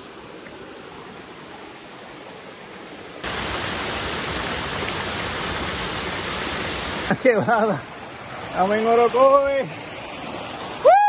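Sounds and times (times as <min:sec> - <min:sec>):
flowing creek water: 0:00.0 - 0:11.0
waterfall pouring over rocks: 0:00.0 - 0:11.0.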